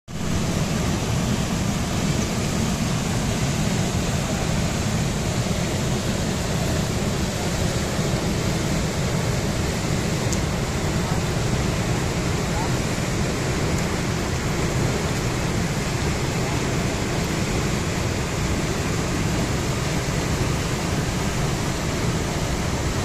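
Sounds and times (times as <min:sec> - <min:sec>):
waterfall rushing: 0:00.1 - 0:23.0.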